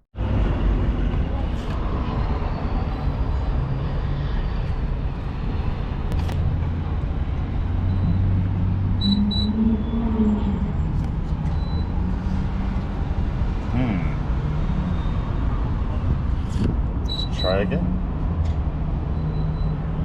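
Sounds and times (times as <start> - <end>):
idling vehicles rumbling: 0.2 - 20.0.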